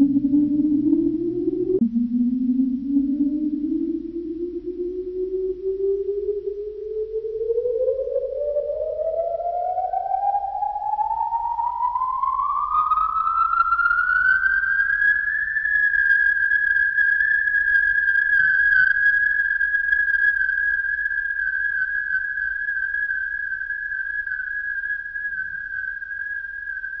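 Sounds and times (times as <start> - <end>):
electronic tone gliding upward: 0.0 - 27.0.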